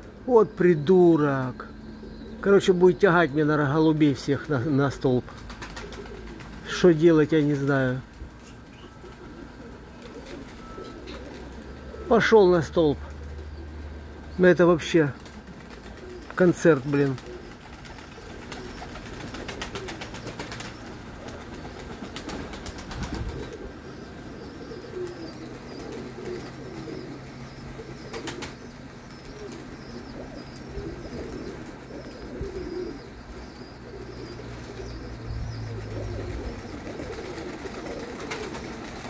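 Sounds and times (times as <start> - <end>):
pigeons cooing: 0.0 - 39.0.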